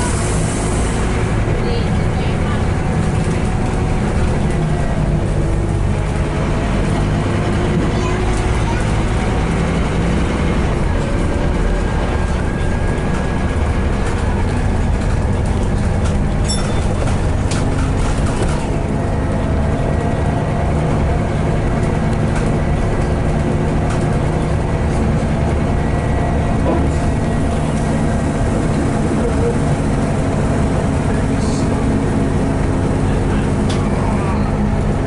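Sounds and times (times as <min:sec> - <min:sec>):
bus diesel engine running: 0:00.0 - 0:35.0
road noise: 0:00.0 - 0:35.0.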